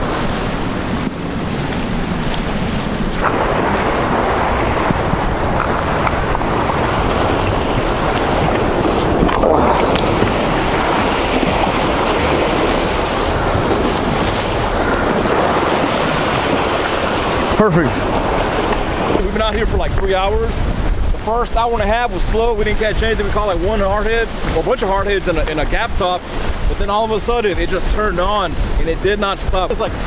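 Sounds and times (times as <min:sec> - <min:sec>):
surf breaking against rocks: 0:00.0 - 0:30.0
wind buffeting microphone: 0:00.0 - 0:30.0.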